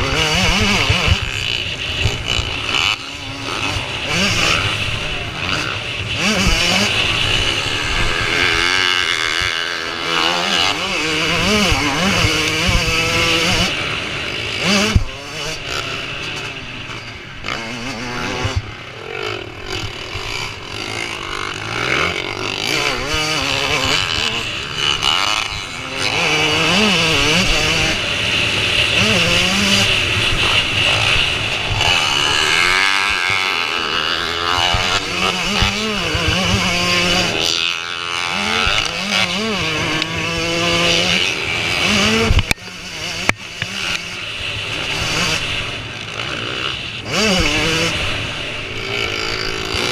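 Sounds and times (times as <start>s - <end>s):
motocross bikes revving: 0.0s - 49.9s.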